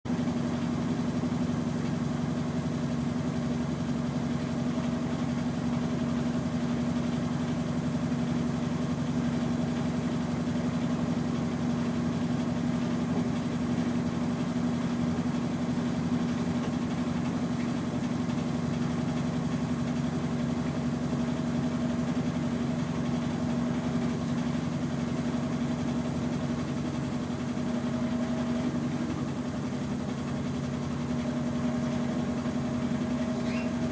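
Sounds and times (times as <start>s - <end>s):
washing machine spinning: 0.1s - 33.9s.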